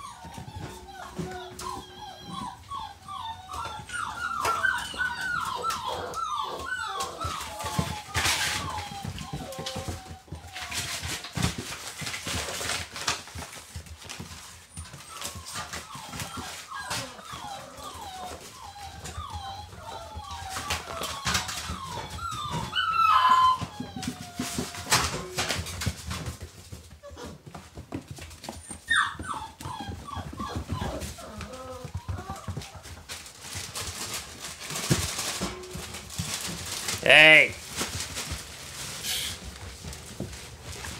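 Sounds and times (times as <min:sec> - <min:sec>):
puppies whimpering: 0:00.0 - 0:37.0
paws scuffling: 0:00.0 - 0:40.9
dog food bag crinkling: 0:00.1 - 0:27.4, 0:28.0 - 0:40.9.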